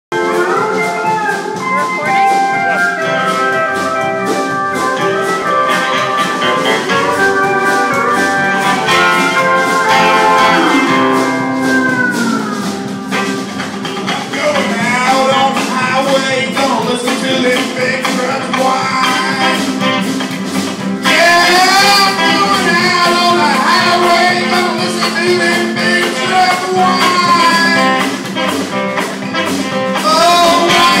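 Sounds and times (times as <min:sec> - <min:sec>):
acoustic band playing: 0:00.1 - 0:31.0
guitars: 0:00.1 - 0:31.0
upright bass sliding: 0:00.1 - 0:31.0.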